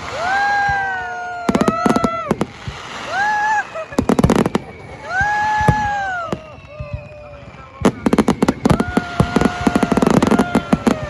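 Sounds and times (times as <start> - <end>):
fireworks cracking: 0.0 - 11.0
fireworks whistling: 0.0 - 11.0.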